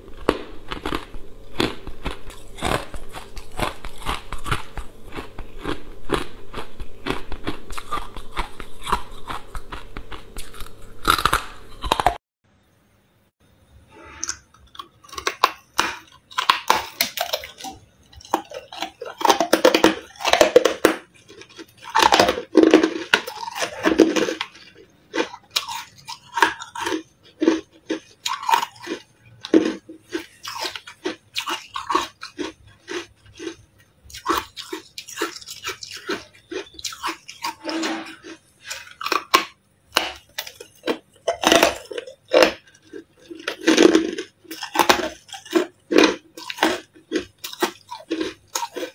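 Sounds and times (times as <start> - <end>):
ice crunching while chewing: 0.0 - 12.2, 14.2 - 48.9.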